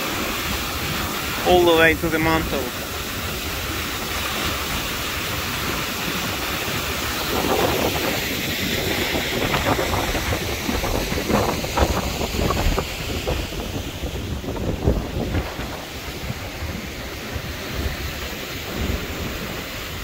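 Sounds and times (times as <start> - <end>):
waterfall rushing: 0.0 - 20.0
wind buffeting microphone: 2.8 - 20.0.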